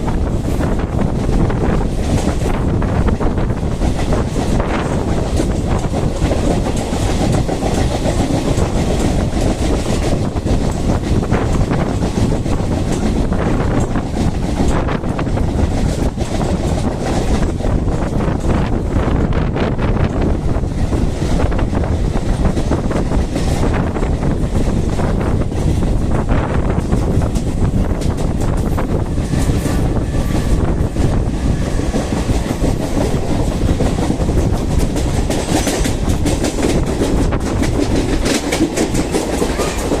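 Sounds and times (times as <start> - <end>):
electric train rumbling: 0.0 - 40.0
train wheels clicking: 0.0 - 40.0
wind buffeting microphone: 0.0 - 40.0.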